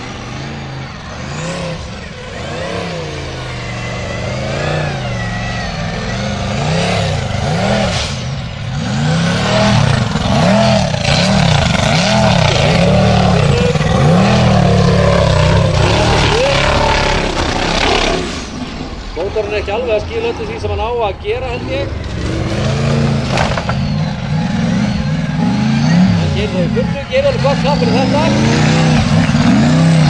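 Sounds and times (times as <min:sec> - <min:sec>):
buggy engine revving hard: 0:00.0 - 0:30.0.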